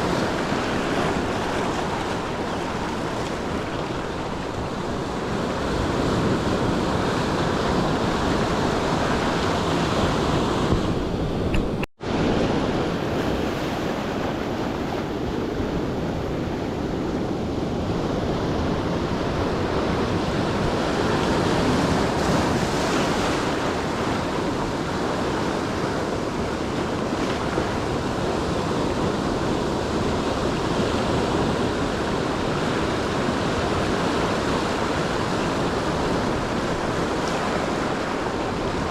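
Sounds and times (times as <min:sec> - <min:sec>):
ocean surf on shore: 0:00.0 - 0:38.9
wind on microphone: 0:00.0 - 0:38.9.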